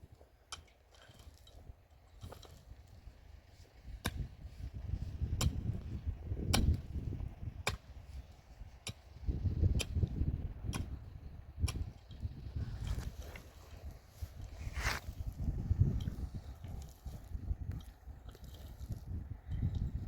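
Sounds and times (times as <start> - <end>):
rough low rumble: 2.2 - 20.0.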